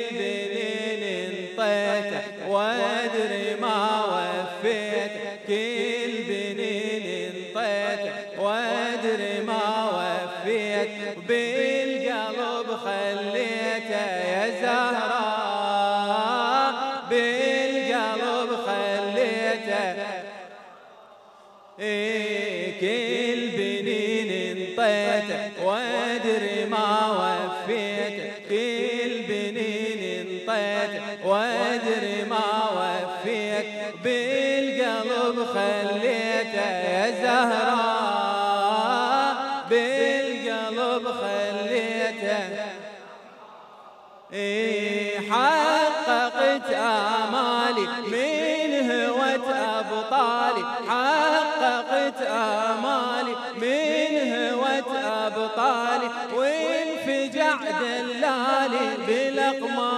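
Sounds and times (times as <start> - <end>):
man chanting into a microphone: 0.0 - 59.9.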